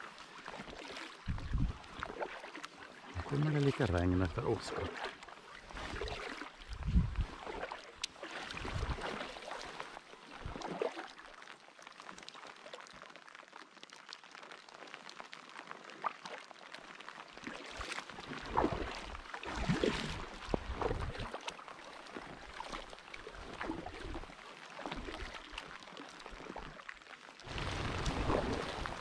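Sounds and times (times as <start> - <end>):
paddle strokes splashing: 0.0 - 14.4, 15.0 - 29.0
light rain on water: 0.0 - 29.0.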